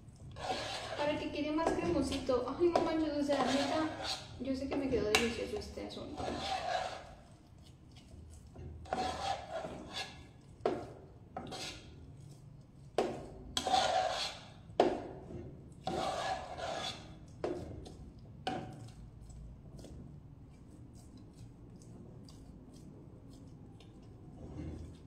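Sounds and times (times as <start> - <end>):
spoon scraping pot: 0.0 - 25.0.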